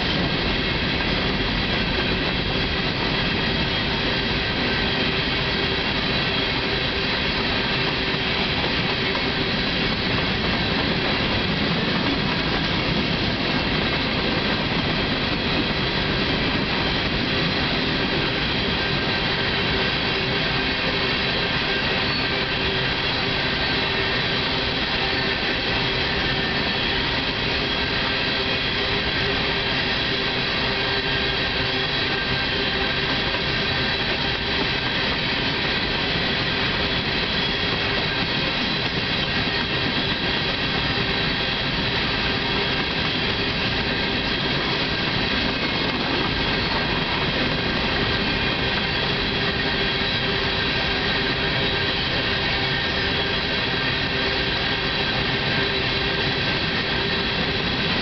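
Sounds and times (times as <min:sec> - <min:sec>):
train wheels running on rail: 0:00.0 - 0:58.0.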